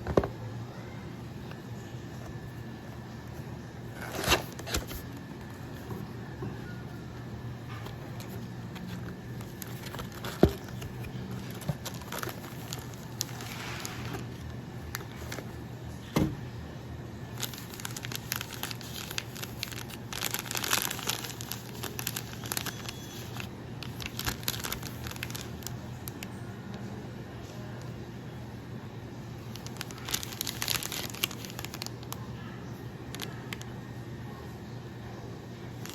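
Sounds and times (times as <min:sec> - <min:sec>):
packaging crinkling and rustling: 0:01.5 - 0:16.0, 0:17.3 - 0:27.9, 0:29.4 - 0:33.8.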